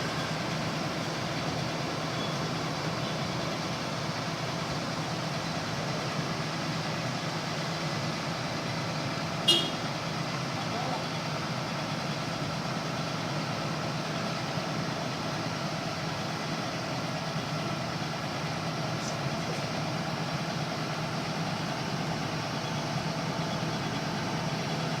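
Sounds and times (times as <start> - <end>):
backhoe engine running: 0.0 - 25.0.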